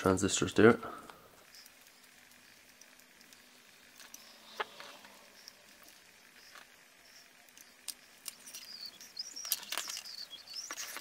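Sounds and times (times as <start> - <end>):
wires and plastic parts handled: 0.0 - 11.0.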